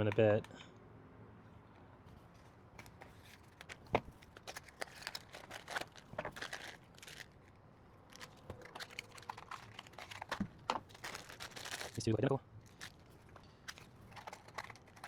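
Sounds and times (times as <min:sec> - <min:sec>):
plastic packaging crinkling: 0:02.8 - 0:15.0.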